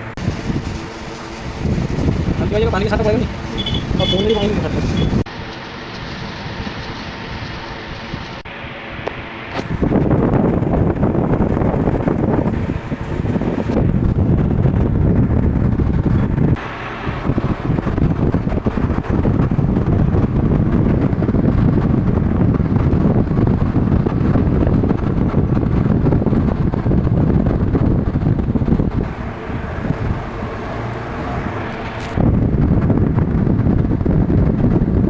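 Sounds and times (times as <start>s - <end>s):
air buffeting microphone: 0.0s - 35.0s.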